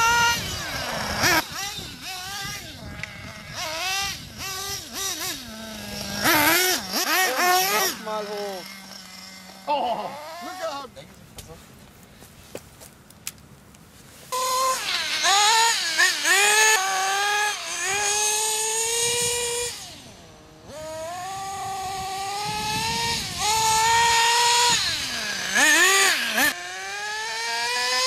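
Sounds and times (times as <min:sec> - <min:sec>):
model car motor revving: 0:00.0 - 0:10.9, 0:14.3 - 0:28.0.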